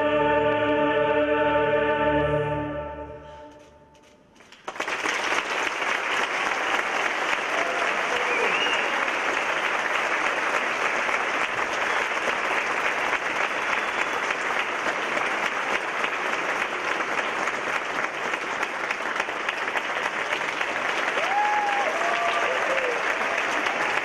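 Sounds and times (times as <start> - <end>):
audience applauding: 4.4 - 24.0.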